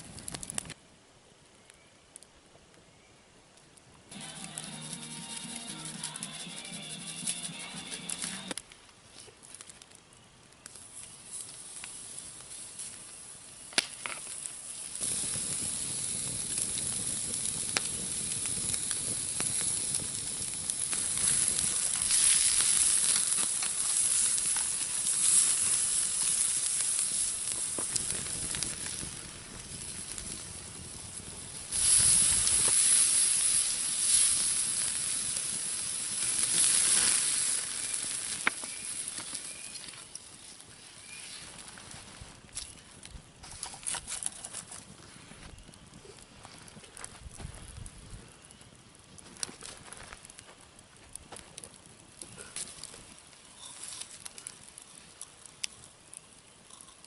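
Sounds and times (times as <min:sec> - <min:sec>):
fire pops and crackles: 0:00.0 - 0:00.8, 0:03.5 - 0:57.0
food sizzling over wood fire: 0:00.0 - 0:00.8, 0:04.1 - 0:57.0.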